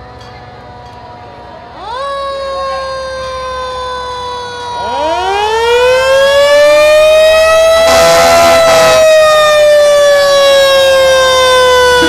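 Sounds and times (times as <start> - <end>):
mechanical siren wailing: 0.8 - 12.0
second siren tone sinking: 1.8 - 12.0.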